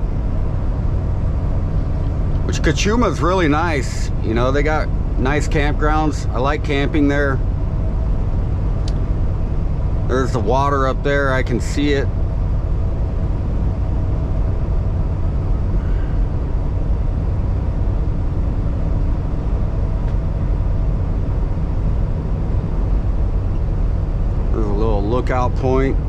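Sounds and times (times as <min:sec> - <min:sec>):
faint steady tones: 0:00.0 - 0:26.0
truck diesel engine droning: 0:00.0 - 0:26.0.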